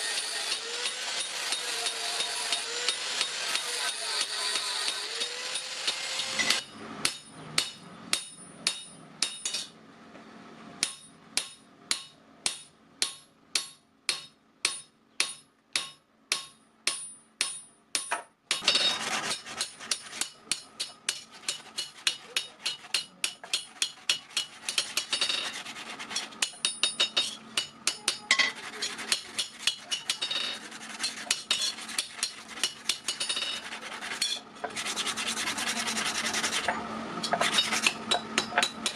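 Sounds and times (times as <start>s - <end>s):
hammer striking steel plate: 0.2s - 9.7s, 10.8s - 25.5s, 26.2s - 33.6s, 36.6s - 38.9s.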